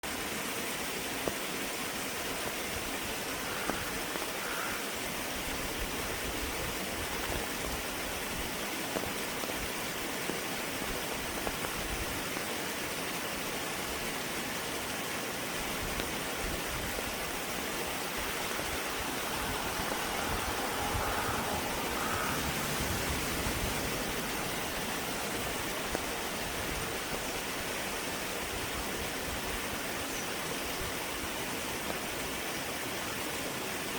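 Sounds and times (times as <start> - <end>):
creek babbling over stones: 0.0 - 33.9.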